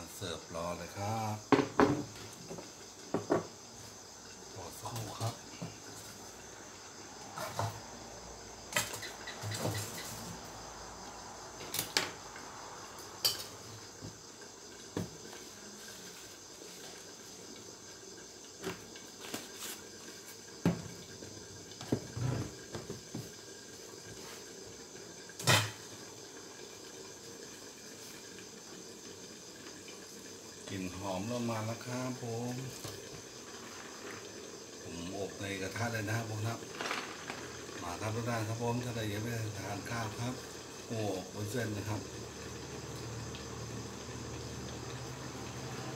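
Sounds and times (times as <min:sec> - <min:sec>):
wok cooking with a steady hiss: 0:00.0 - 0:45.9.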